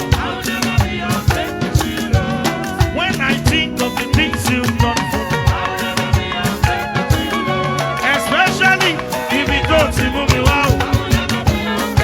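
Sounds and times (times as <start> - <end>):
live band playing gospel music: 0.0 - 12.0.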